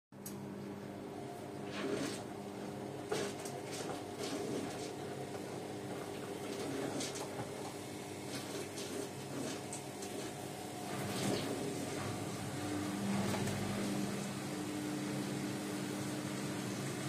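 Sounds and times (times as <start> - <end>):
washing machine motor hum: 0.2 - 17.0.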